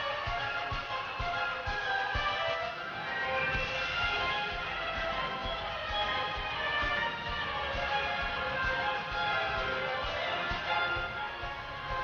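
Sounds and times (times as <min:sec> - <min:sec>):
melodic music with low beat: 0:00.0 - 0:12.0.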